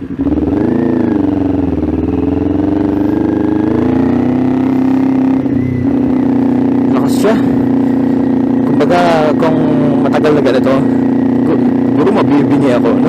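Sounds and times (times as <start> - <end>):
motorcycle engine running loud: 0.0 - 13.0.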